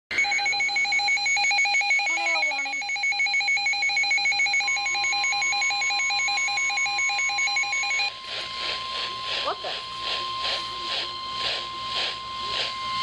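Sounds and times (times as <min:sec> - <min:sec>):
rapid electronic beeping alarm: 0:00.1 - 0:13.0
steady warning tone: 0:00.1 - 0:13.0.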